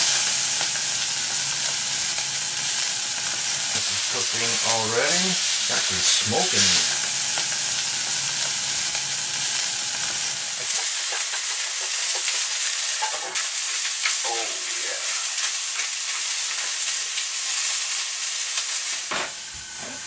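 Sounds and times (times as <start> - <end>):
chicken sizzling in frying pan: 0.0 - 20.0.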